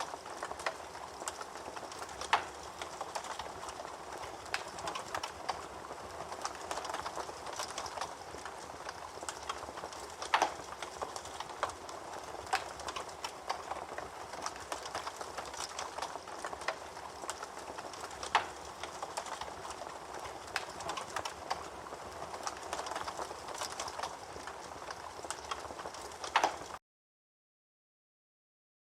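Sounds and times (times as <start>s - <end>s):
sharp fire pops: 0.0s - 5.6s, 6.4s - 21.7s, 22.4s - 26.8s
campfire hissing and crackling: 0.0s - 26.8s.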